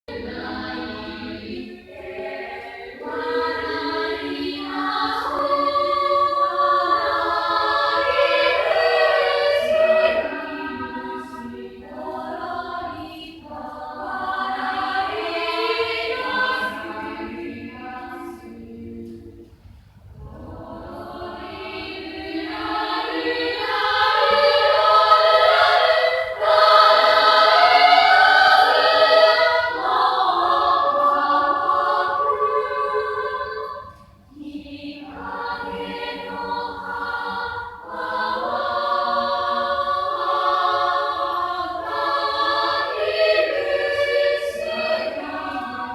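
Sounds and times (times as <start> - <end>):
chorus singing in harmony: 0.0 - 45.9.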